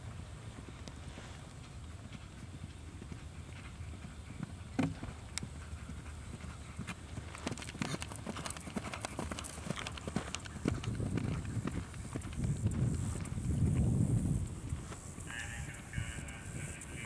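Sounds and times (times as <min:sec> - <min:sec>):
horse hoofbeats on turf: 0:00.1 - 0:17.0.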